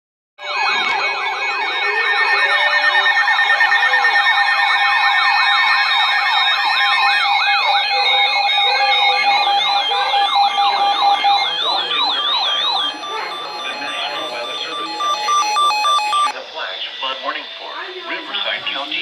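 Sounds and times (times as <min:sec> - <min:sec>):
electronic siren yelping: 0:00.4 - 0:19.0.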